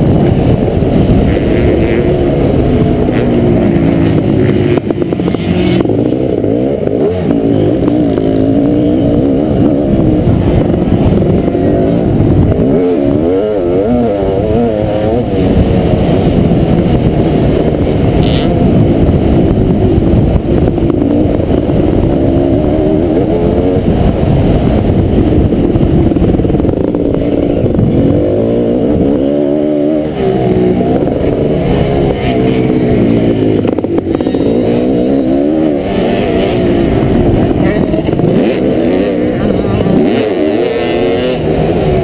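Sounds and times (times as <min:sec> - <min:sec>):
motocross engine revving: 0:00.0 - 0:42.0.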